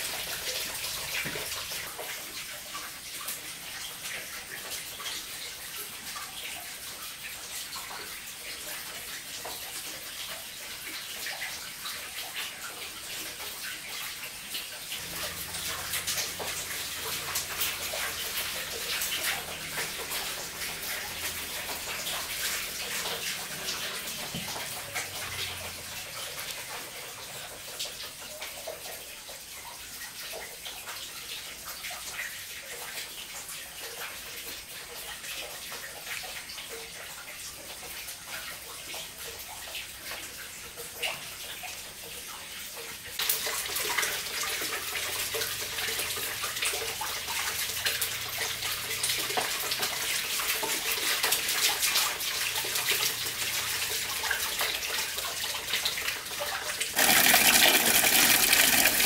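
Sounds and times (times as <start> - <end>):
water splashing and trickling: 0.0 - 59.0.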